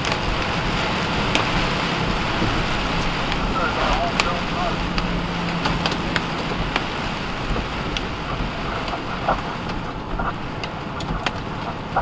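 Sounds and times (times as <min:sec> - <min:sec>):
heavy rain: 0:00.0 - 0:12.0
tyres on wet road: 0:00.0 - 0:12.0.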